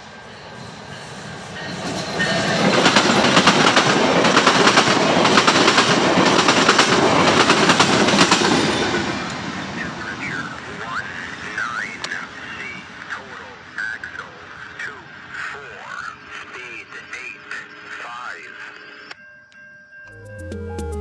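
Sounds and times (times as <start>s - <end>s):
passenger train passing: 0.0s - 19.2s.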